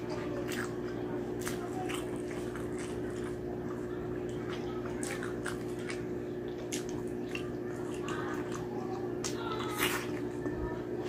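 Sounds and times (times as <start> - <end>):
steady hum: 0.0 - 11.0
wet chewing and mouth noises: 0.0 - 11.0.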